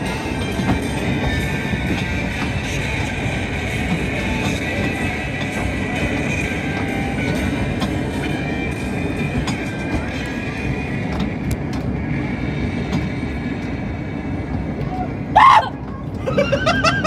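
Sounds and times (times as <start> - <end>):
train cars rolling rumble: 0.0 - 17.0.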